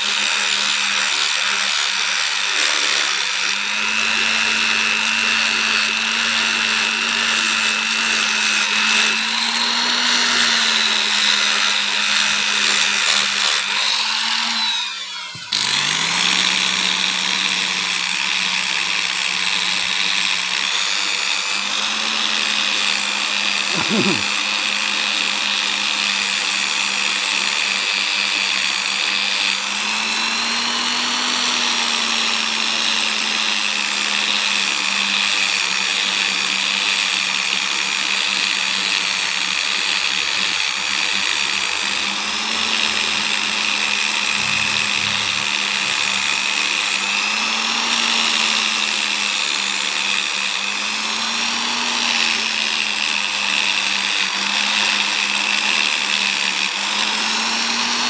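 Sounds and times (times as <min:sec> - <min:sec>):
electric motor hum: 0:00.0 - 0:58.0.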